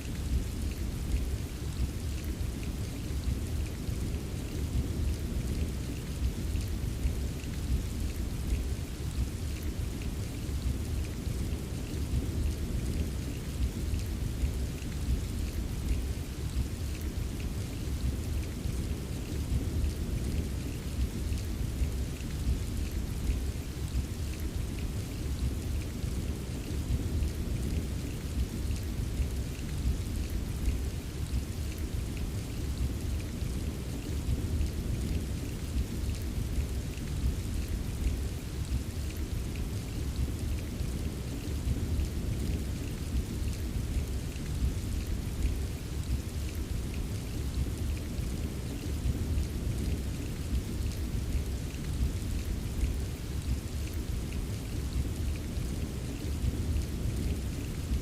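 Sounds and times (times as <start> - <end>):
deep rain rumble: 0.0 - 58.0.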